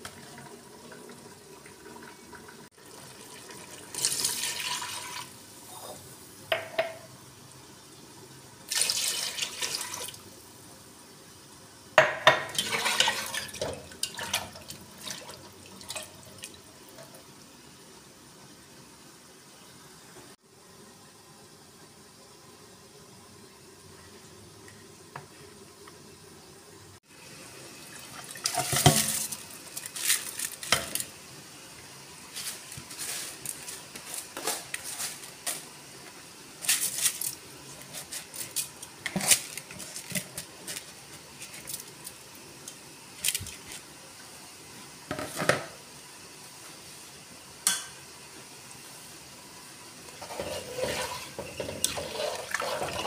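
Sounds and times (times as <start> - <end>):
stock boiling in a metal pot: 0.0 - 10.3, 11.2 - 18.5, 23.4 - 53.0.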